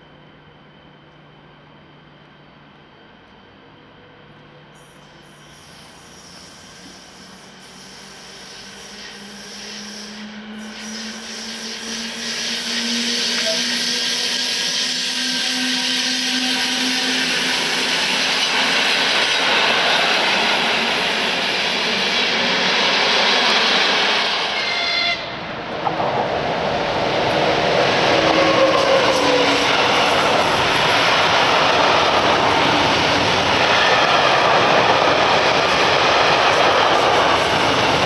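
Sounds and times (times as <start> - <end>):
electric passenger train passing: 0.0 - 38.0
locomotive hauling freight train: 0.0 - 38.0.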